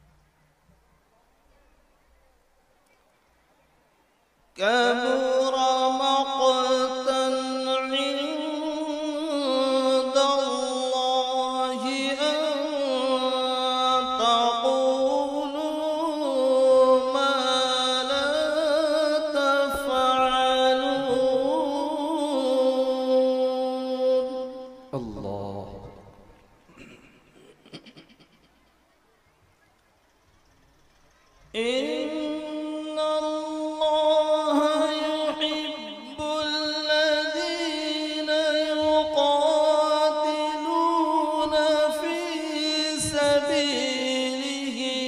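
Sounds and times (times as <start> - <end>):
man chanting melodically: 4.5 - 27.6, 31.5 - 45.0.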